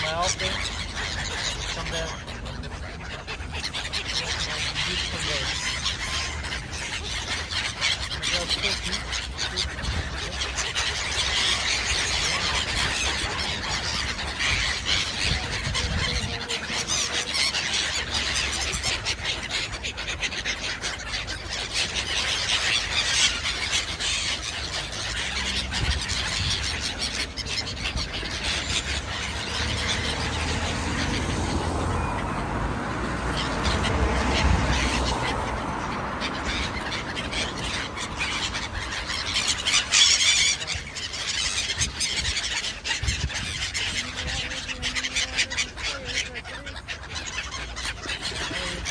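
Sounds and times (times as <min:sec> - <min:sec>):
birds calling shrilly: 0:00.0 - 0:48.9.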